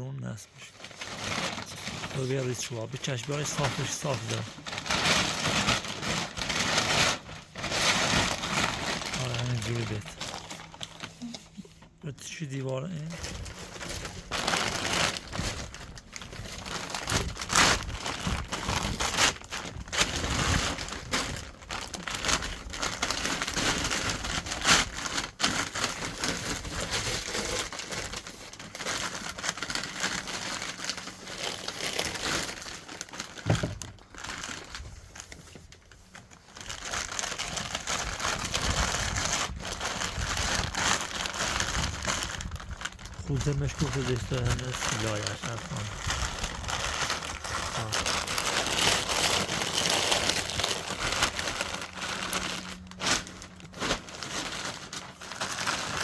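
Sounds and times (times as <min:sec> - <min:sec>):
building materials crinkling and scraping: 0:00.0 - 0:56.0.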